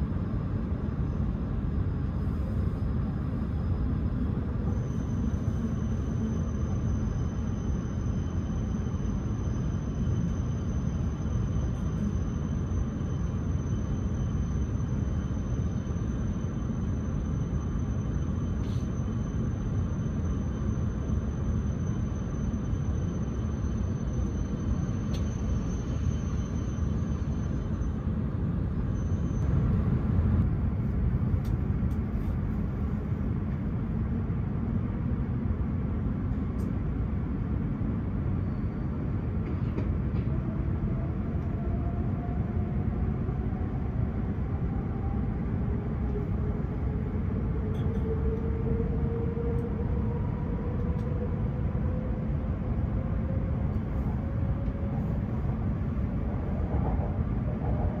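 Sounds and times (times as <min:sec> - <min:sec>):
train low rumble: 0:00.0 - 0:58.0.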